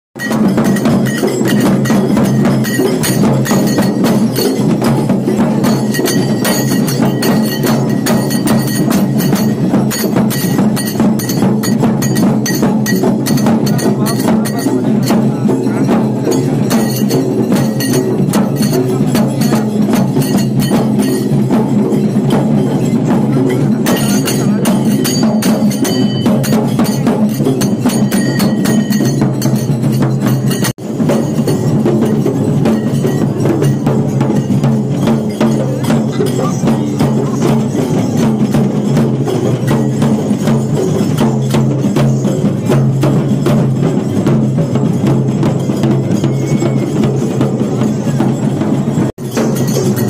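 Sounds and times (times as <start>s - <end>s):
festival percussion music: 0.2s - 50.0s.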